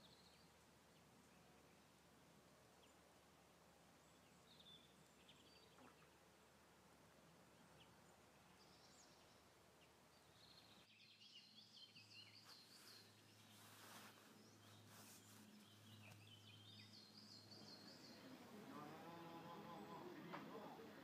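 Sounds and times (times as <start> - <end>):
faint low hum: 0.0 - 21.0
small birds chirping: 0.0 - 21.0.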